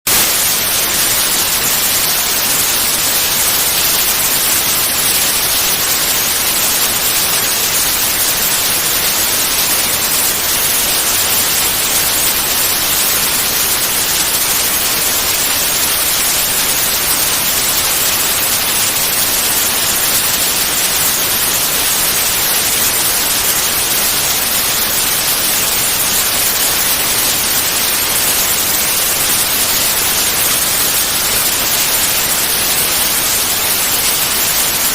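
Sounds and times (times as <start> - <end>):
white noise hiss: 0.1 - 34.9.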